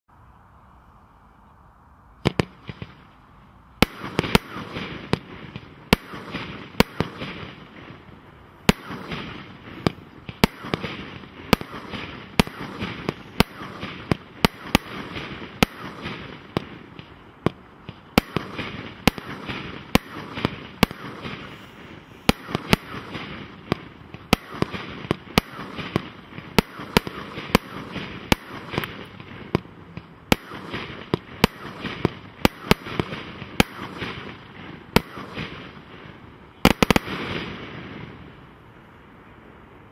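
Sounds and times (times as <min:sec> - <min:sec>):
firework hiss: 0:02.0 - 0:17.2, 0:17.9 - 0:38.4
firework reports: 0:02.0 - 0:39.9.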